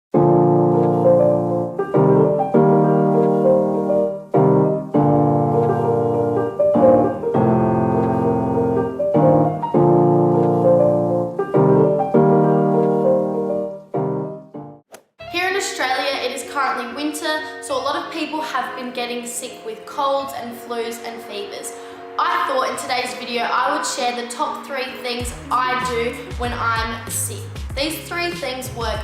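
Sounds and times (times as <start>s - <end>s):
piano playing held chords: 0.1s - 27.0s.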